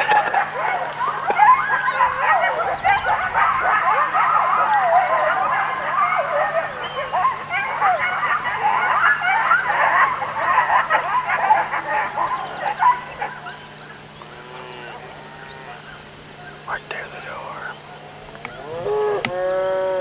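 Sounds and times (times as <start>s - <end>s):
coyotes yipping and howling: 0.0s - 20.0s.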